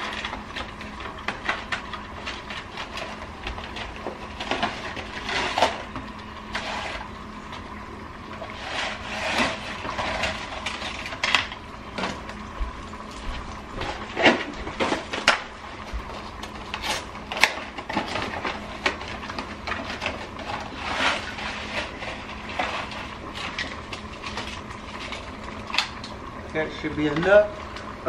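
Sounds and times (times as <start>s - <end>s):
boiling water: 0.0s - 28.0s.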